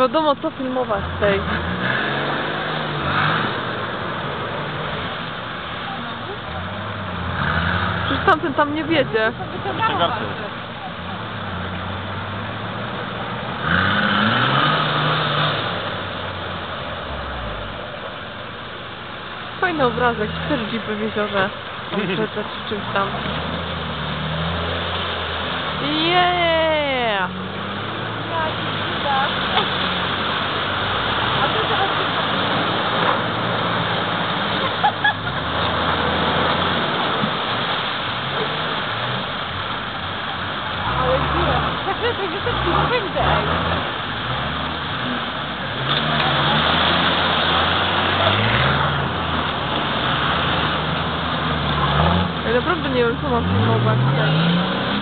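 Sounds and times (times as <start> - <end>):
suv engine revving: 0.0 - 55.0
water splashing from wheels: 0.0 - 55.0.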